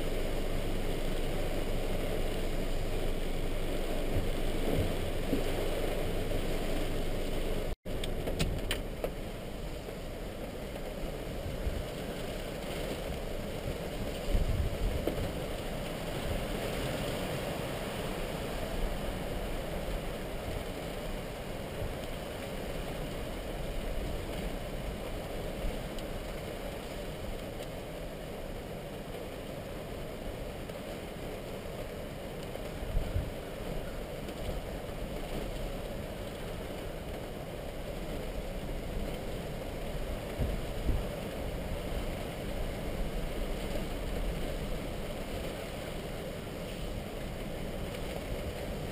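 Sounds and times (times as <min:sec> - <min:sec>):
wind and rain rushing: 0:00.0 - 0:48.9
wind gusts rumbling on microphone: 0:00.0 - 0:48.9.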